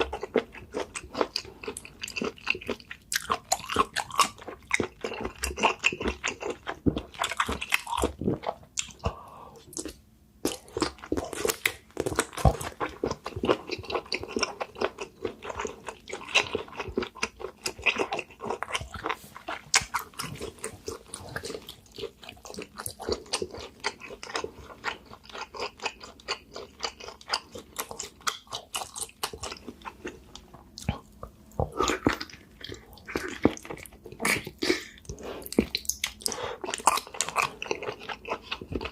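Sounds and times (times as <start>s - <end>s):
wet chewing and crunchy bites: 0.0s - 38.9s.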